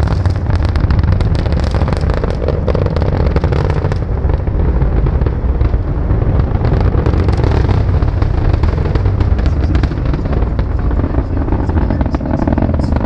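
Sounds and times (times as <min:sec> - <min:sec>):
rocket engines rumbling and crackling: 0:00.0 - 0:13.0.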